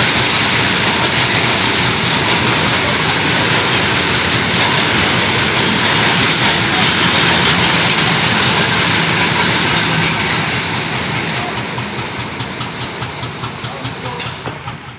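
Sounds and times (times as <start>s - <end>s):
train wheels rushing on rails: 0.0s - 14.9s.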